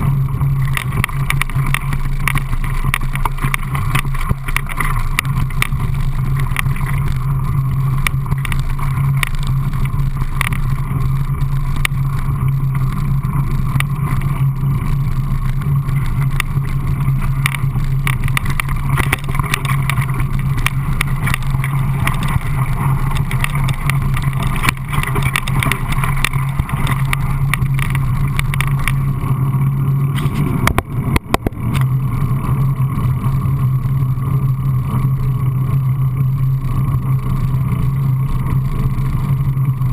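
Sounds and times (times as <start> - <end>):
bike rattling over stones: 0.0 - 39.9
wind and rolling tyres drone: 0.0 - 39.9.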